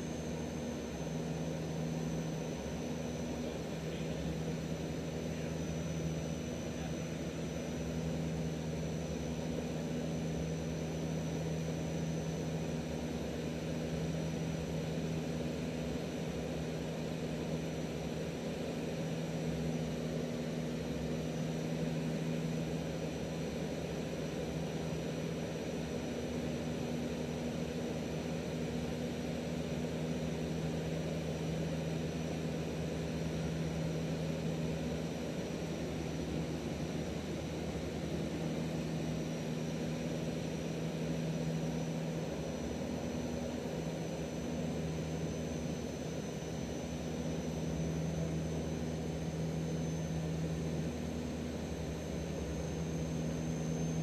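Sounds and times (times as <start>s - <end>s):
faint high whine: 0.0s - 54.0s
turboprop engines droning: 0.0s - 54.0s.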